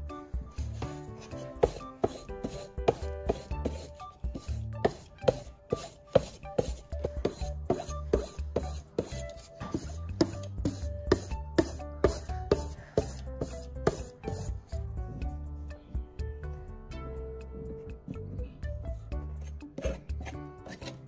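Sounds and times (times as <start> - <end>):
background music with steady beat: 0.0 - 21.0.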